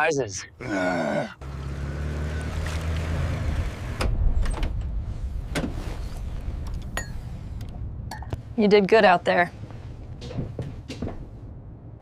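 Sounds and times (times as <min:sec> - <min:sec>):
low motor hum: 0:01.4 - 0:12.0.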